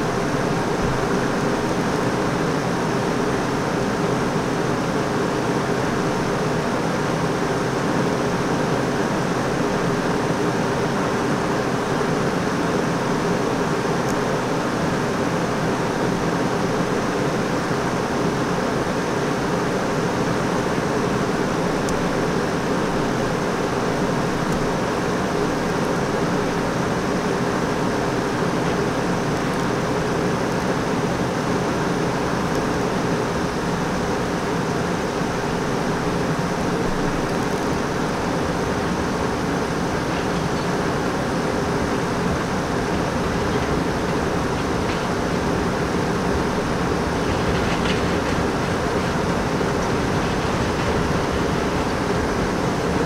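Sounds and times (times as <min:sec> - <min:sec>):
distant traffic: 0:00.0 - 0:53.0
subway train rumbling on tracks: 0:00.0 - 0:53.0.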